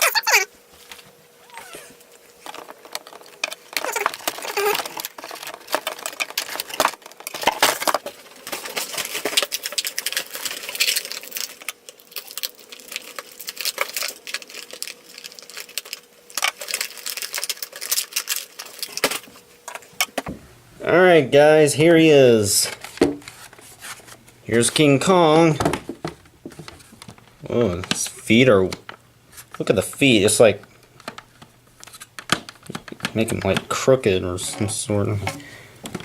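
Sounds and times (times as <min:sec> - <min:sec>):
packaging crinkling and rustling: 0:00.0 - 0:20.3, 0:22.5 - 0:36.0.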